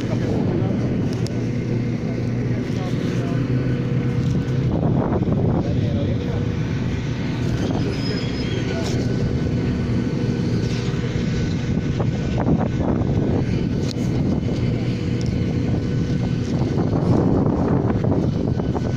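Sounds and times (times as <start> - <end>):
wind buffeting microphone: 0.0 - 8.0, 8.6 - 18.9
aircraft engines droning: 0.0 - 18.9.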